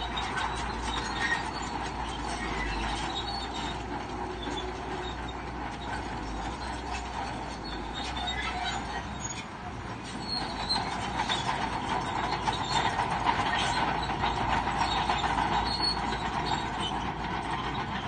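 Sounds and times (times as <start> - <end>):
bulldozer engine running: 0.0 - 18.0
bulldozer tracks squealing and clanking: 0.0 - 18.0.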